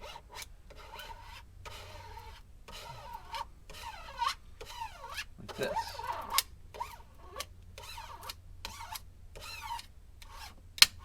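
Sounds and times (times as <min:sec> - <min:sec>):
plastic scraper squeaking on decal: 0:00.0 - 0:11.0.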